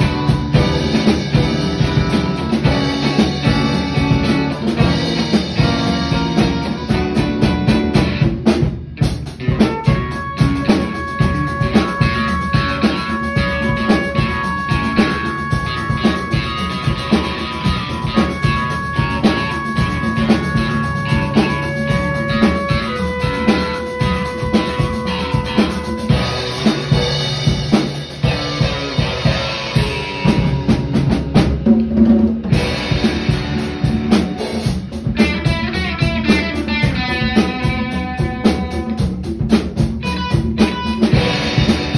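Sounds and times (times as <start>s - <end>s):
drum kit beat: 0.0s - 41.9s
rock band playing: 0.0s - 41.9s.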